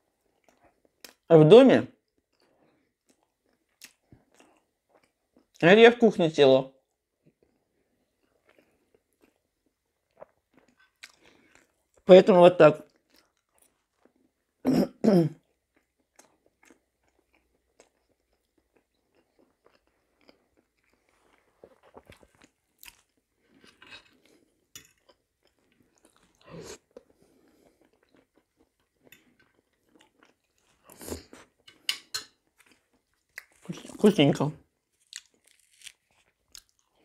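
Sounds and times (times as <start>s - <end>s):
close chewing and mouth sounds: 0.0s - 1.3s, 1.9s - 5.6s, 6.8s - 12.1s, 12.8s - 14.6s, 15.4s - 37.0s.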